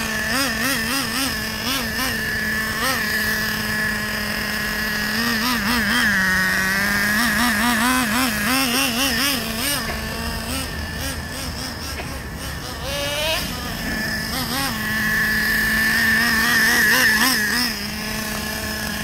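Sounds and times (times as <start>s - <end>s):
small glow engine buzzing: 0.0s - 19.0s.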